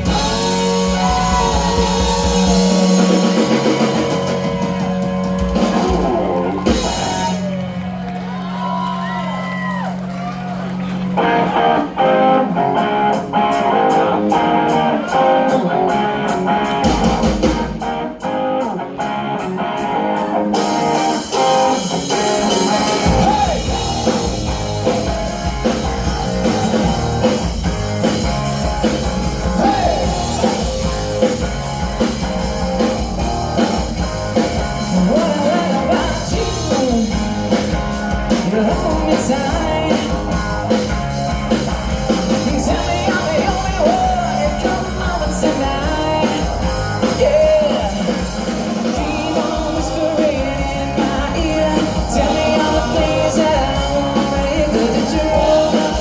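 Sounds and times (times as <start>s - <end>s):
electric guitar lead lines: 0.0s - 56.0s
live rock band playing: 0.0s - 56.0s.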